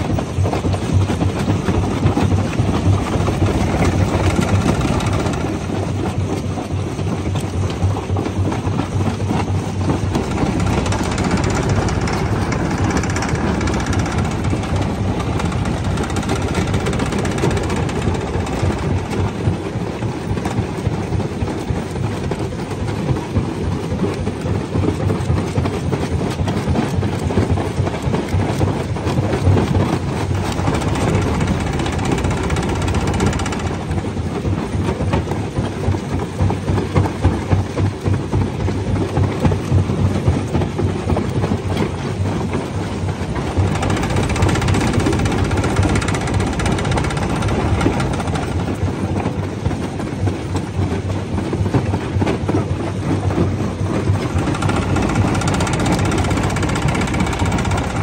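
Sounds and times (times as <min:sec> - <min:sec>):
rock crusher rumbling: 0:00.0 - 0:36.3, 0:40.6 - 0:58.0.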